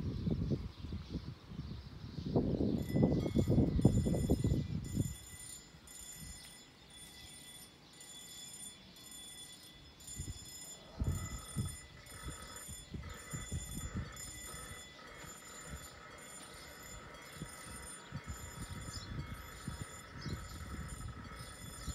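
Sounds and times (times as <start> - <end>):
level-crossing warning bell: 2.8 - 21.9.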